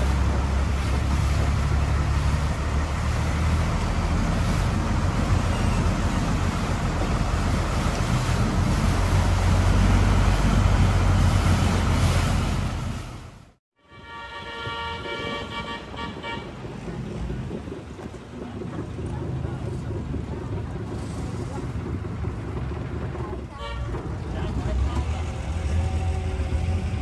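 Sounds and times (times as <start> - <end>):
boat engine running: 0.0 - 13.6, 14.8 - 27.0
water rushing past hull: 0.0 - 27.0.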